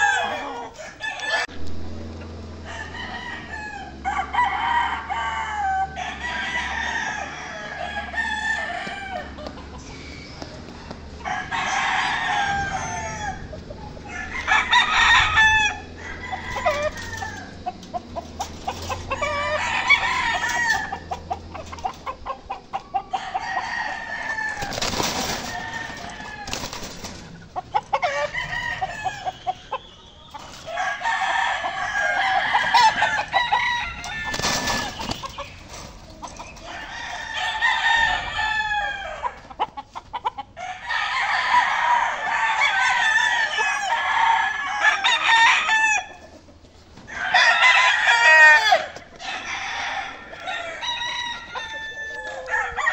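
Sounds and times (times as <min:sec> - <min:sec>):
roosters crowing: 0:00.0 - 0:52.9.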